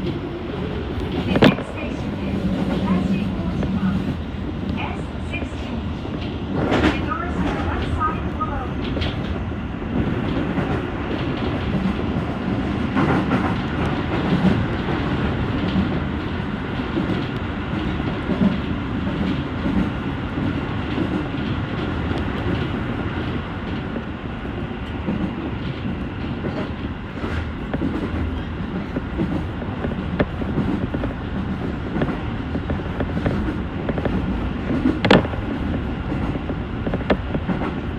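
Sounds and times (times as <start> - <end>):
rail joint clicks: 0.0 - 37.9
train wheels rumbling on rails: 0.0 - 37.9.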